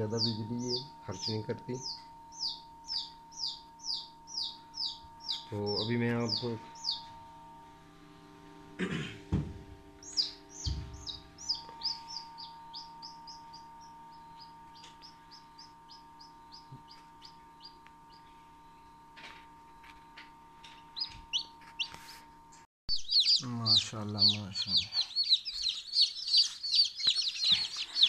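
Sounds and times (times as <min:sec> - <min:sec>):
high falling bird chirps: 0:00.0 - 0:07.3, 0:10.0 - 0:19.0, 0:20.8 - 0:22.1, 0:22.9 - 0:28.0
egg incubator hum: 0:00.0 - 0:28.0.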